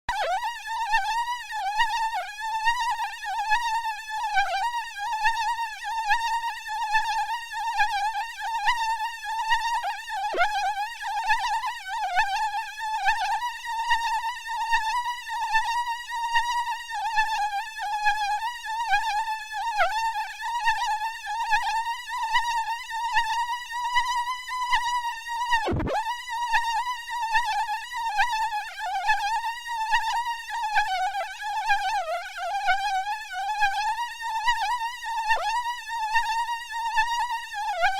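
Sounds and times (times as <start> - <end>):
mosquito buzzing: 0.1 - 37.9.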